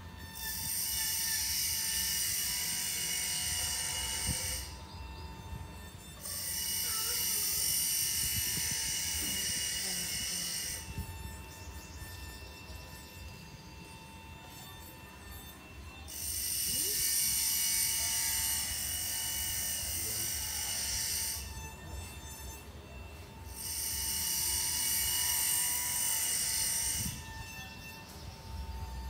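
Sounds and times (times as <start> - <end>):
small machine hissing whine: 0.0 - 29.0.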